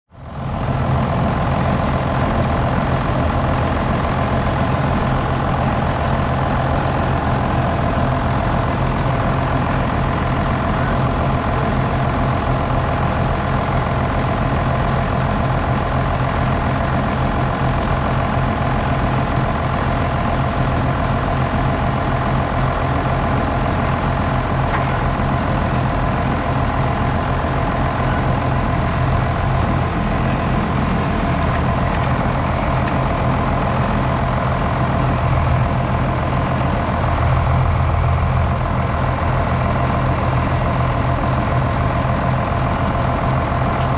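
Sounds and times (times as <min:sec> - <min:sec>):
engine running steadily: 0:00.1 - 0:43.9.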